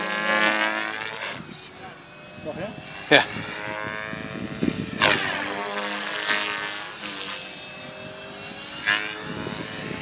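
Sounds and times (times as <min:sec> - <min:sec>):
rc helicopter rotor whine: 0:00.0 - 0:10.0.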